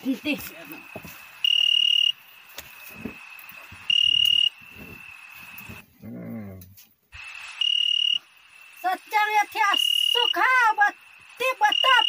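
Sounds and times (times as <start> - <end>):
cricket chirping: 0.0 - 5.8, 7.2 - 12.0.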